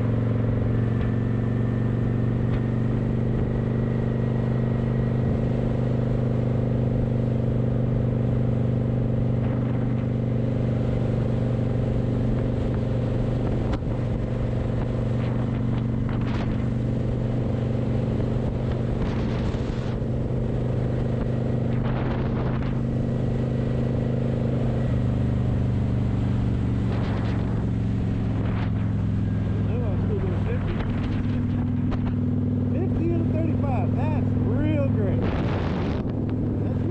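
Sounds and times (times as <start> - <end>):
vehicle engine running steadily: 0.0 - 36.9.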